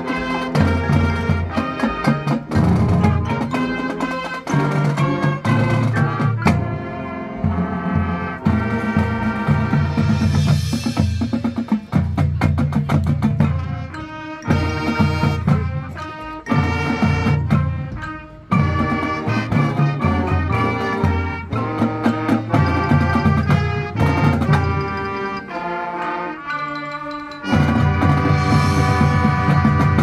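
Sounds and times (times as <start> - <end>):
drums and percussion: 0.0 - 30.0
marching band brass: 0.0 - 30.0.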